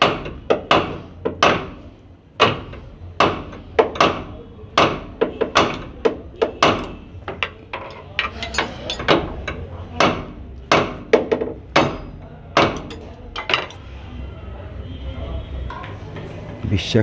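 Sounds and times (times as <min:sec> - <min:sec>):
hammer striking metal: 0:00.0 - 0:14.3.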